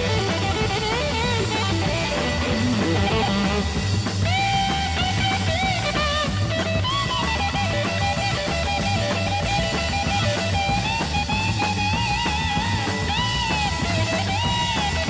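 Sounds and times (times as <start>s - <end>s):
bass and drums: 0.0s - 15.0s
rock lead guitar: 0.0s - 15.0s.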